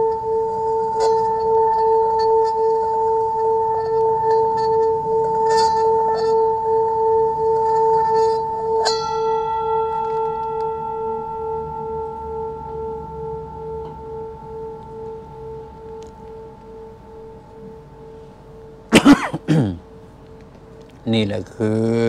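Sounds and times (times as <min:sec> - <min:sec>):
singing bowl ringing: 0:00.0 - 0:18.9.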